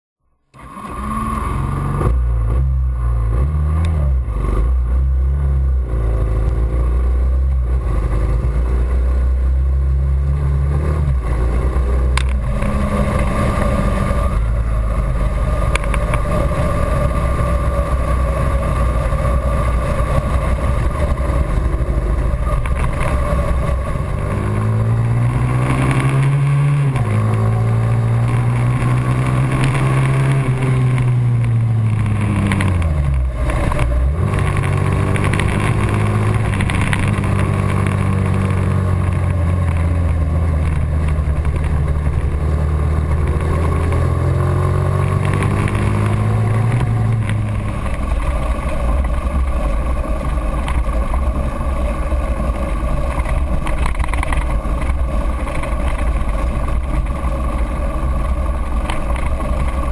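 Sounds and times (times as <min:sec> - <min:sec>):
dirt bike engine: 0:00.4 - 0:59.9.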